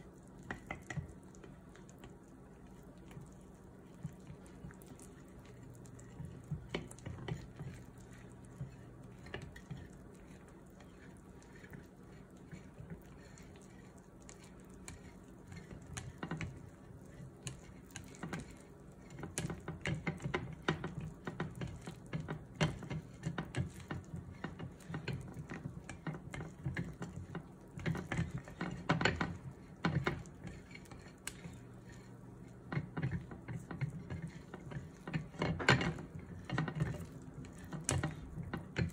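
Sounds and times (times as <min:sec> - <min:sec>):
chopsticks stirring batter in glass bowl: 0:00.0 - 0:38.9.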